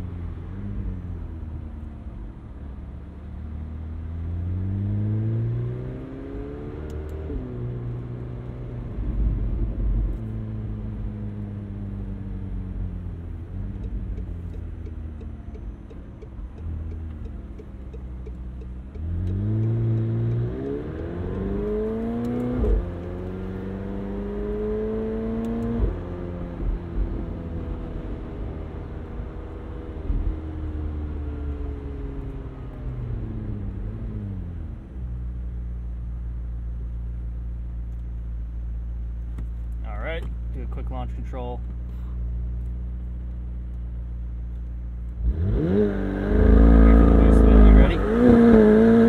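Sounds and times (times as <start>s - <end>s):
sports car engine revving: 3.2s - 35.7s, 41.8s - 49.0s.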